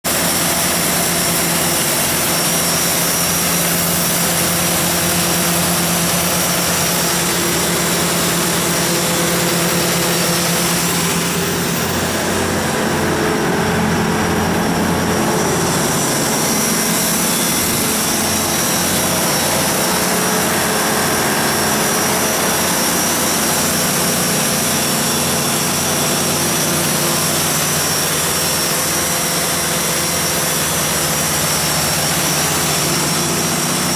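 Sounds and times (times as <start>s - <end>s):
diesel generator running: 0.0s - 33.9s.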